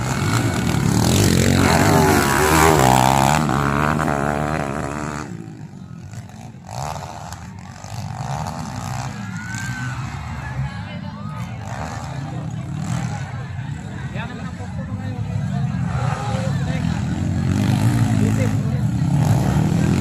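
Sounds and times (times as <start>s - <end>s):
dirt bike engine revving: 0.0s - 20.0s
distant dirt bike engine revving: 0.0s - 20.0s.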